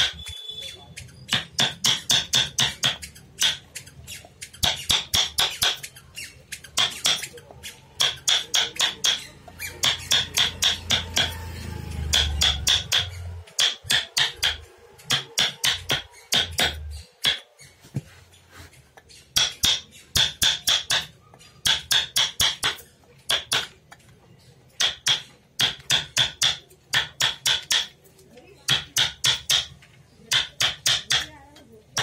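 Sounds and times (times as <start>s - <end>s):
hammer tapping chisel: 1.3s - 5.9s, 6.6s - 17.4s, 19.0s - 24.1s, 24.7s - 28.0s, 28.7s - 31.4s.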